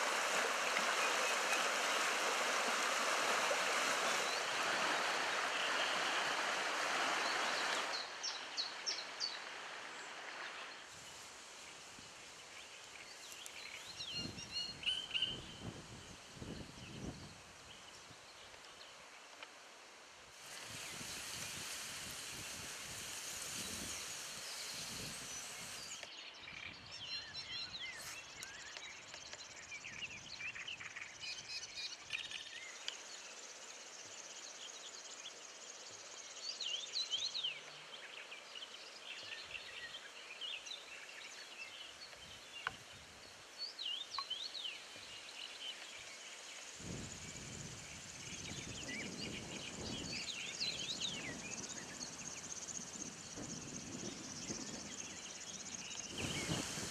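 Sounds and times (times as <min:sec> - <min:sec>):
high hiss of insects: 0:00.0 - 0:26.3, 0:27.8 - 0:56.9.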